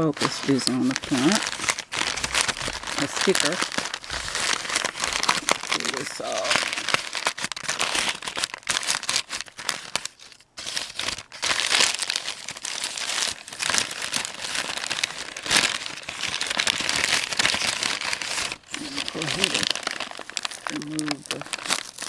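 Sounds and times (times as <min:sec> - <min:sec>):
paper wrapping crinkling: 0:00.0 - 0:22.0.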